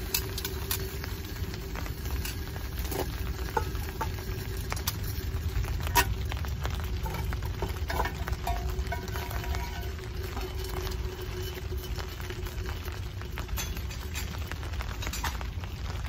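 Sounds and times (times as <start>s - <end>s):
low rumble of flame: 0.0s - 16.0s
sharp pops of fire: 0.0s - 16.0s
wood fire crackling: 0.0s - 16.0s.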